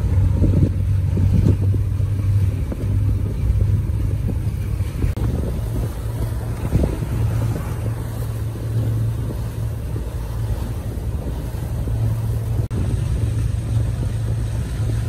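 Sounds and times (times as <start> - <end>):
motorboat engine humming: 0.0 - 15.0
water noise: 0.0 - 15.0
wind: 0.0 - 15.0.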